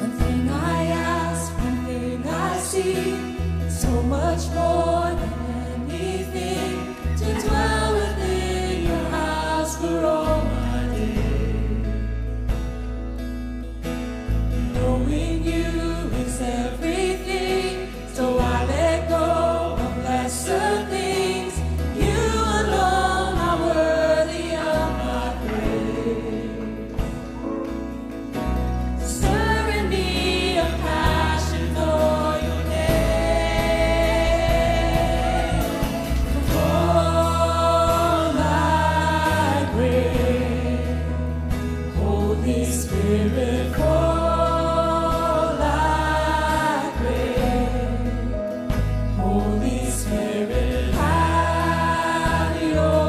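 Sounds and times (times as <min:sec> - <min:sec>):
women singing together: 0:00.0 - 0:11.7, 0:14.7 - 0:27.2, 0:29.1 - 0:48.4, 0:49.1 - 0:53.0
acoustic guitar: 0:00.0 - 0:53.0
bass guitar: 0:00.0 - 0:53.0
keyboard: 0:00.0 - 0:53.0.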